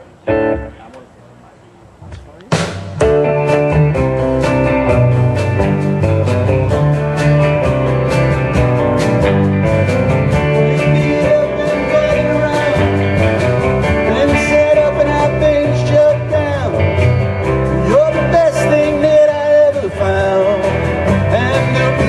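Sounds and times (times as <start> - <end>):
live rock band playing: 0.0 - 1.0, 2.1 - 22.0
bending lead guitar line: 0.0 - 1.2, 1.9 - 22.0.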